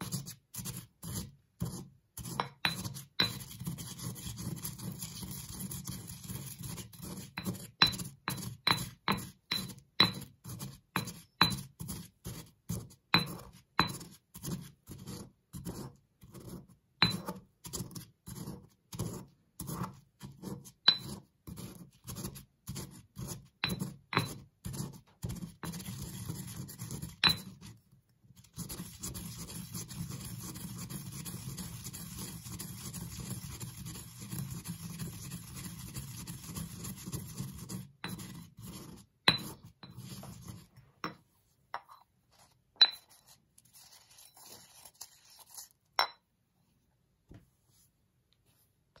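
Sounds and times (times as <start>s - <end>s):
pestle scraping in mortar: 0.0s - 27.7s, 28.4s - 40.7s, 41.8s - 46.1s.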